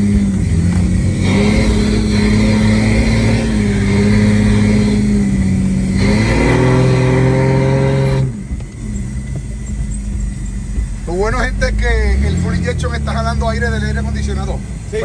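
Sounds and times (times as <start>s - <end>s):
engine running hard: 0.0s - 15.0s.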